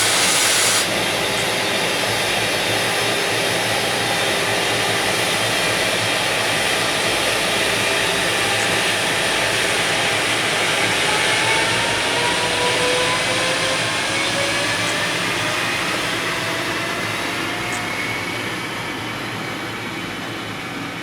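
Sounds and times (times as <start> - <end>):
train wheels on rails: 0.0 - 20.7.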